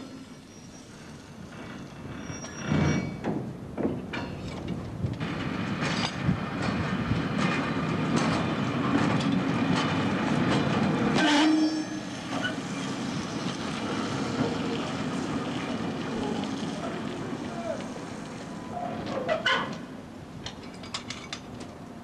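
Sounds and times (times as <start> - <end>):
freight wagons rumbling over rails: 0.0 - 22.0.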